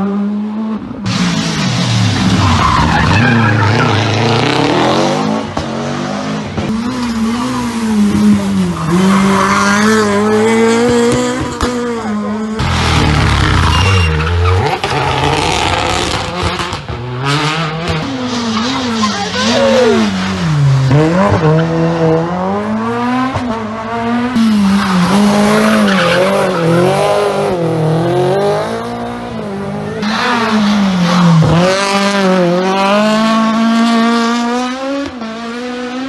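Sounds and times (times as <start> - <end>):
rally car engines revving: 0.0 - 36.0.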